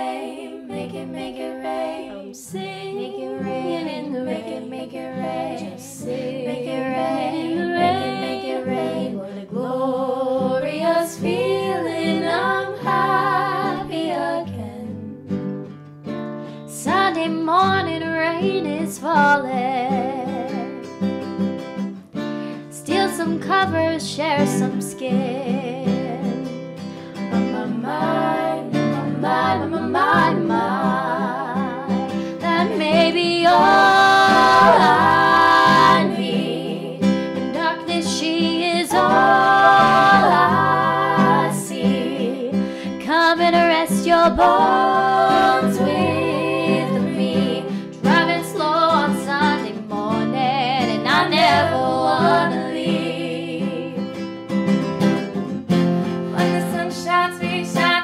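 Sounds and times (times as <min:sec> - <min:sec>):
women singing: 0:00.0 - 0:15.4, 0:16.7 - 0:20.9, 0:22.7 - 0:26.6, 0:27.3 - 0:54.3, 0:56.0 - 0:58.0
acoustic guitar: 0:00.0 - 0:58.0.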